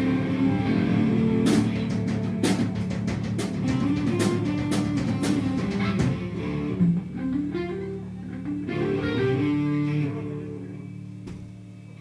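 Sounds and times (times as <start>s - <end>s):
live band led by guitar: 0.0s - 12.0s.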